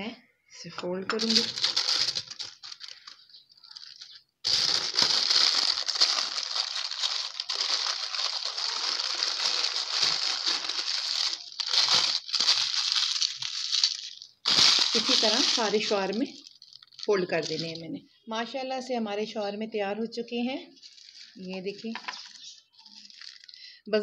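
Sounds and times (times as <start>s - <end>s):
paper crinkling: 1.1s - 17.9s, 20.8s - 23.6s.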